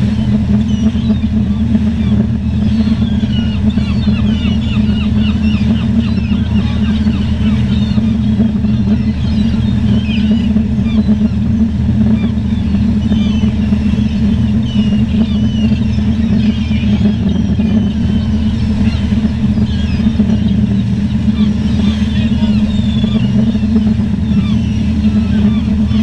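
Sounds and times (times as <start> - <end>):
low engine drone: 0.0 - 26.0
seagulls calling: 0.0 - 26.0.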